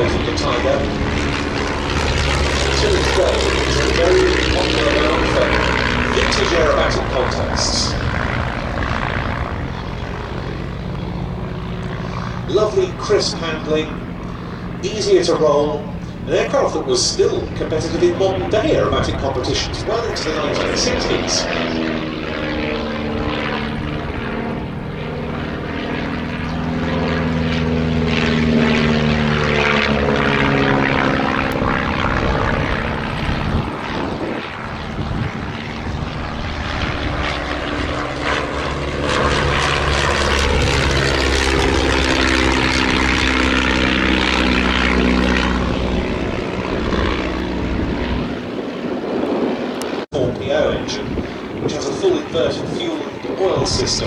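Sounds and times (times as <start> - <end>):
biplane engines passing: 0.0 - 54.0.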